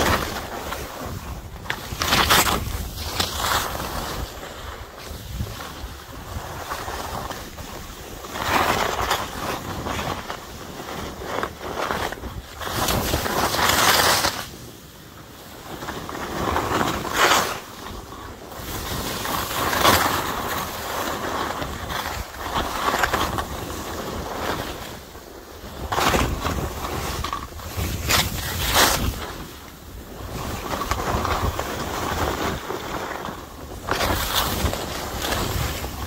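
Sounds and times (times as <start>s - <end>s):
skis carving on snow: 0.0s - 36.0s
wind on microphone: 0.0s - 36.0s.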